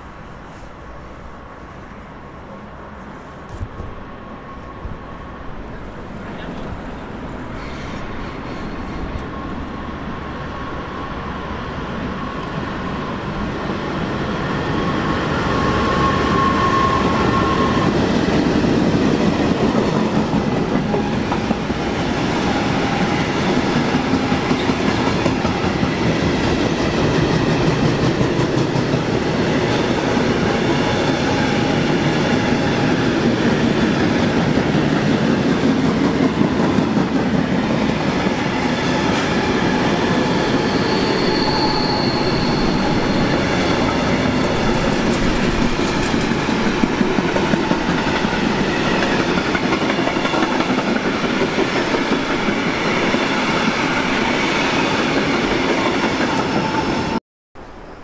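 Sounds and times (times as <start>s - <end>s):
train wheels rolling on rails: 0.0s - 57.2s.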